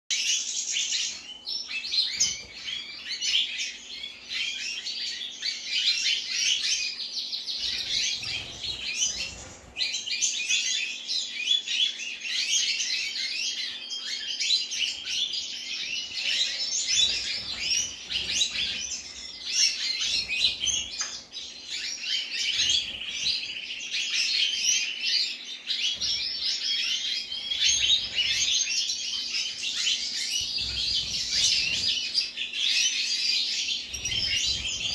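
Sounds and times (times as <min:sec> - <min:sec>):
goldfinches chirping and twittering: 0:00.1 - 0:34.9.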